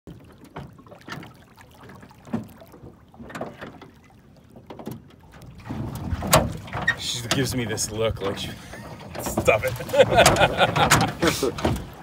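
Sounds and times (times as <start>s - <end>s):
soft splashes: 0.1s - 12.0s
water lapping against boat hull: 0.1s - 12.0s.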